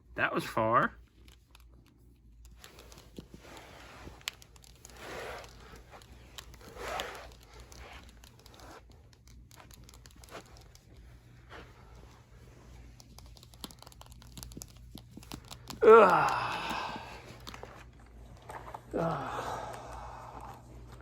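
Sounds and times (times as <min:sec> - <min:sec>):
toy figures clicking and rustling: 0:00.8 - 0:18.7.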